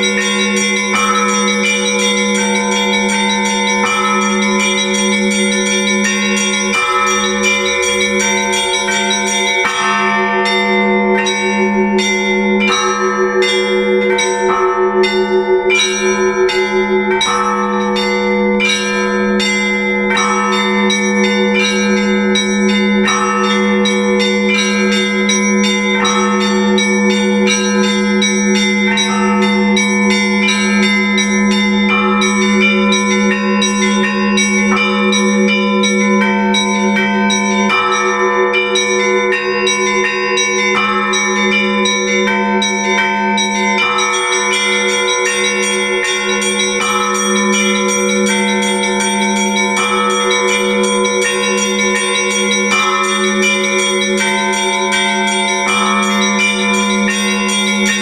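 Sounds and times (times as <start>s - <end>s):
large bell low hum: 0.0s - 58.0s
small church bells striking: 0.0s - 58.0s.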